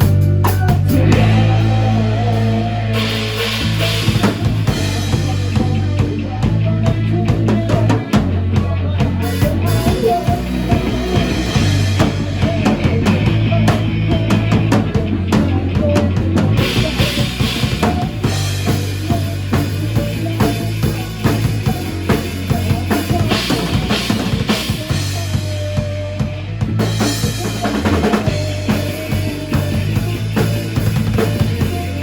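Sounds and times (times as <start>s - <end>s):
bass line: 0.0s - 32.0s
drum kit steady beat: 0.0s - 32.0s.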